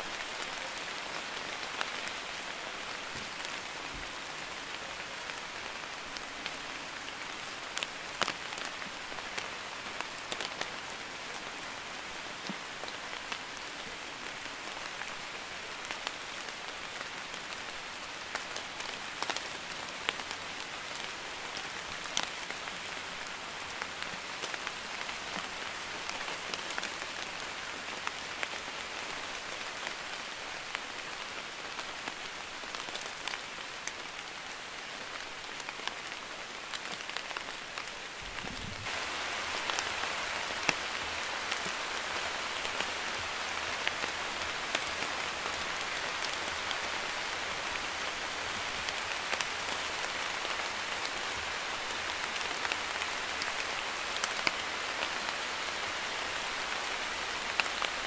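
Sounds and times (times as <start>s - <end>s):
light rain hissing: 0.0s - 58.0s.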